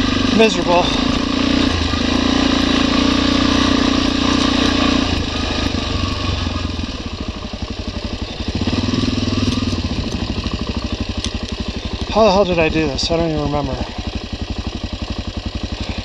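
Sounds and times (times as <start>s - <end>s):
dirt motorcycle engine running: 0.0s - 16.0s.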